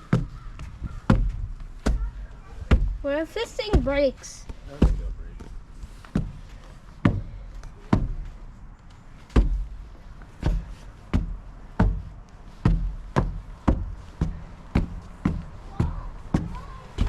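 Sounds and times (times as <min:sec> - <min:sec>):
heavy footsteps climbing: 0:00.0 - 0:17.0.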